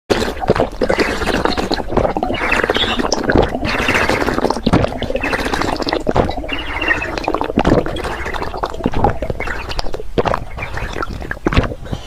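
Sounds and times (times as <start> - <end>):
wet chewing and slurping: 0.1 - 12.0.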